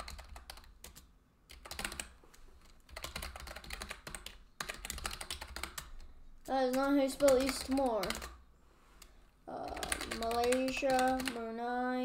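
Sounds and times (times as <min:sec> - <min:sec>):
typing on a keyboard: 0:00.0 - 0:06.1, 0:06.7 - 0:08.4, 0:09.6 - 0:11.5.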